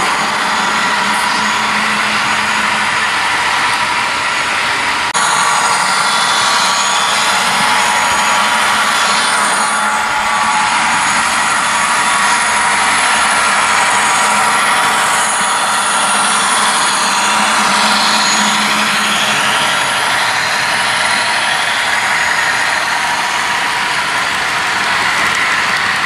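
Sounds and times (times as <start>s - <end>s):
model train wheels and motor whirring: 0.0s - 26.0s.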